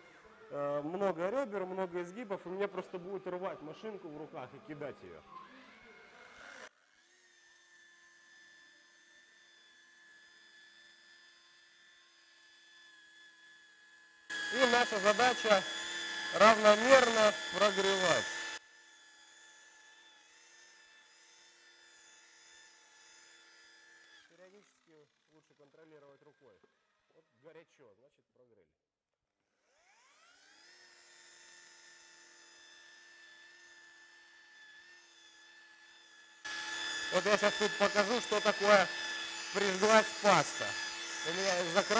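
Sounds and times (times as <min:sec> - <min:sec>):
rotary polisher whining: 0:00.0 - 0:26.8, 0:29.6 - 0:41.9.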